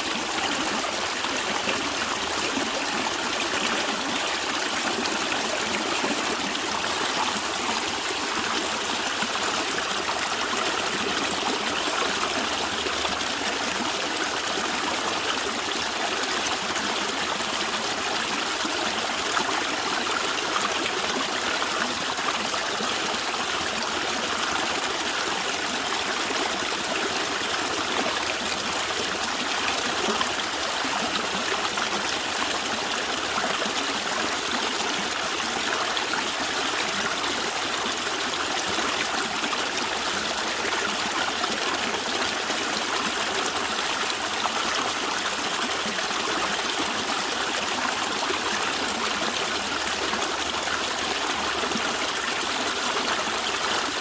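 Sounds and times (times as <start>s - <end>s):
stream running and gurgling: 0.0s - 54.0s.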